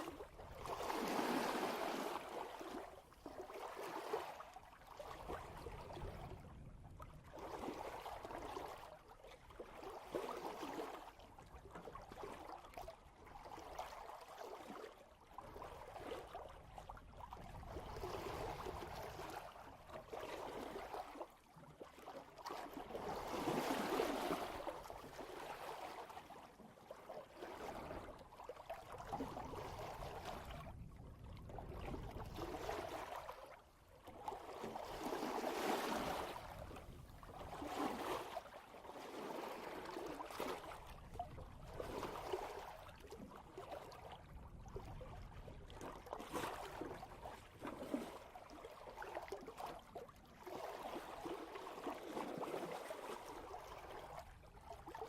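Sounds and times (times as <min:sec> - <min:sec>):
water rushing at boat bow: 0:00.0 - 0:55.0.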